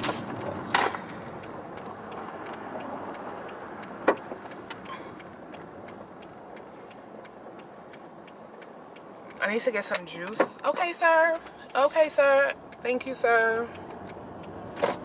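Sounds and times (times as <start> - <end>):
car cabin road noise: 0.0 - 15.0
turn signal ticking: 0.0 - 15.0.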